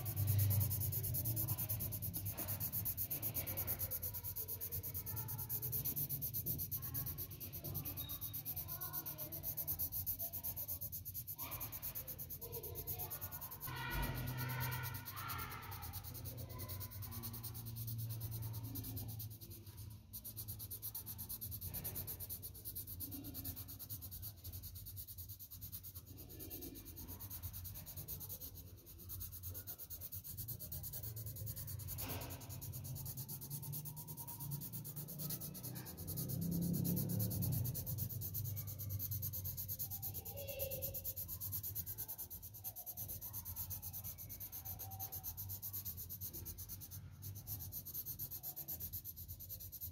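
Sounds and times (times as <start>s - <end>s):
pencil scratching on paper: 0.0s - 49.9s
steady low hum: 0.0s - 49.9s.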